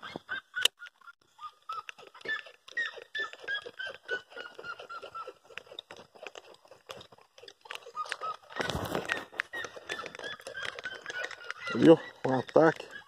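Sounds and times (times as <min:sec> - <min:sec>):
bird calling: 0:00.0 - 0:06.8, 0:07.6 - 0:13.0.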